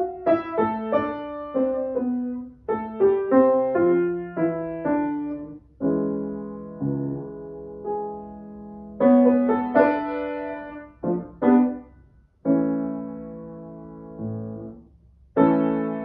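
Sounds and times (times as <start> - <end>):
grand piano chords: 0.0 - 16.0.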